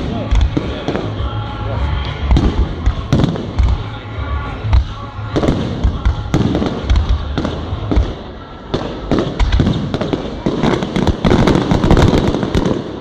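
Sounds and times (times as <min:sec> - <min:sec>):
fireworks booming: 0:00.0 - 0:01.3, 0:02.2 - 0:13.0
fireworks crackling bangs: 0:00.0 - 0:01.4, 0:02.1 - 0:13.0.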